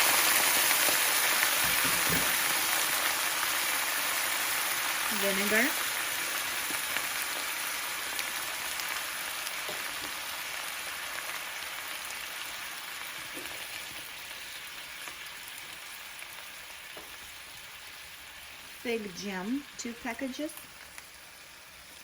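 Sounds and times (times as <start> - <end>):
liquid sizzling in a frying pan: 0.0 - 22.0.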